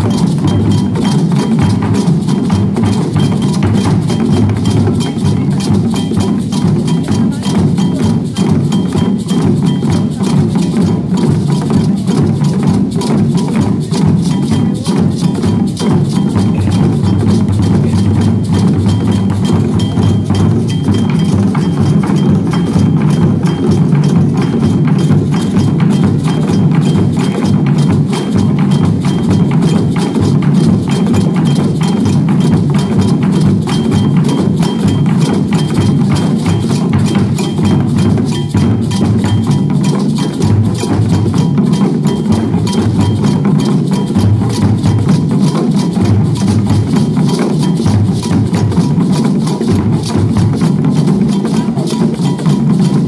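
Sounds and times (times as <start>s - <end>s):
group drumming: 0.0s - 53.0s.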